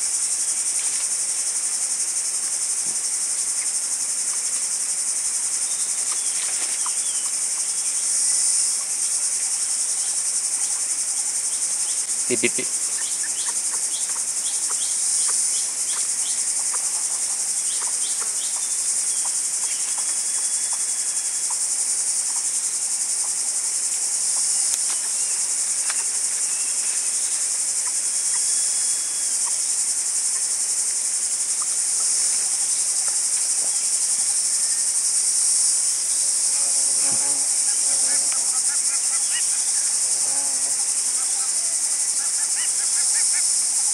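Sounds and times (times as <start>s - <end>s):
high-pitched insect chorus: 0.0s - 43.9s.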